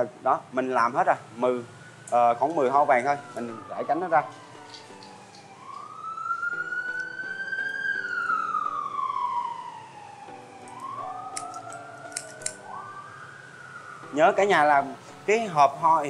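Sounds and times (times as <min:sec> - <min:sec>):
siren wailing: 0:02.0 - 0:16.0.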